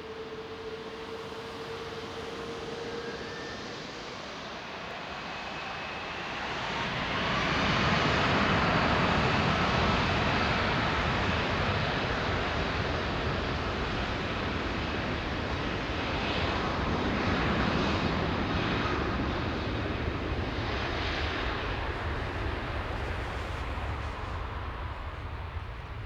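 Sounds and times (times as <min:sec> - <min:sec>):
jet engines at takeoff thrust: 0:00.0 - 0:26.0.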